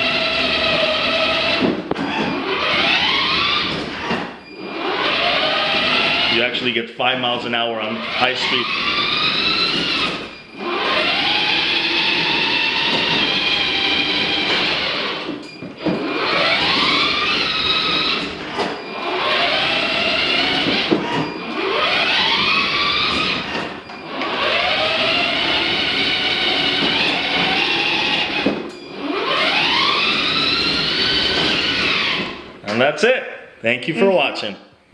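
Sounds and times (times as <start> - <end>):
toy ride-on car motor whining: 0.0 - 6.6, 7.9 - 32.5.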